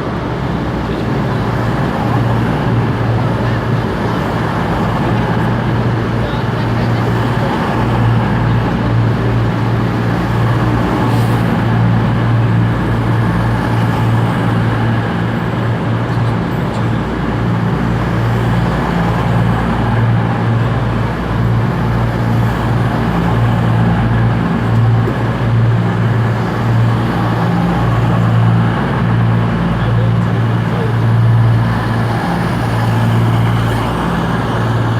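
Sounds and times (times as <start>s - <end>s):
diesel train engine humming: 0.0s - 34.9s.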